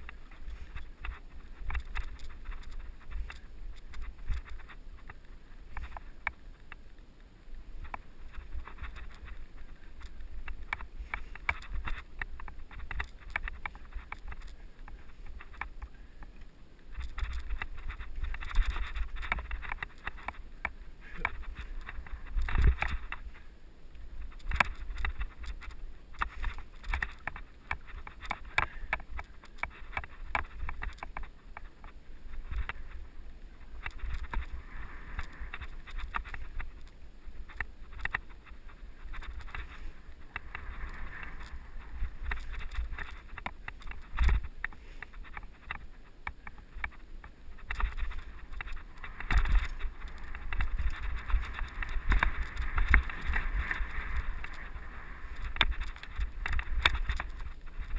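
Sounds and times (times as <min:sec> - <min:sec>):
bike rattling: 0:00.0 - 0:06.6, 0:07.8 - 0:57.9.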